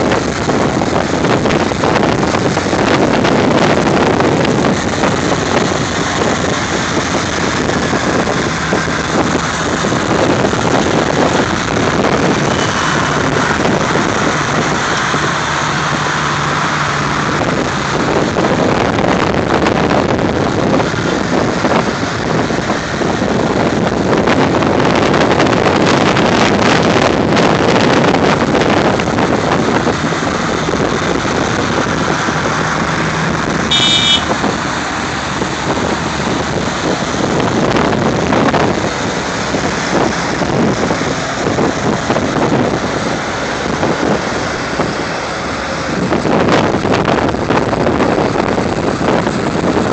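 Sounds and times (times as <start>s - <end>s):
tractor engines driving past: 0.0s - 49.9s
wind noise on microphone: 0.0s - 49.9s.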